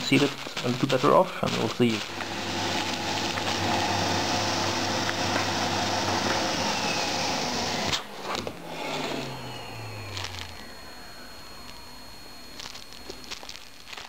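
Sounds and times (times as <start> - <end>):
vacuum cleaner running: 1.5 - 14.0.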